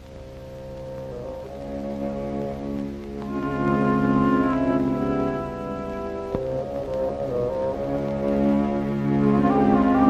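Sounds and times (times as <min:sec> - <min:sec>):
orchestral film music: 0:00.4 - 0:10.0.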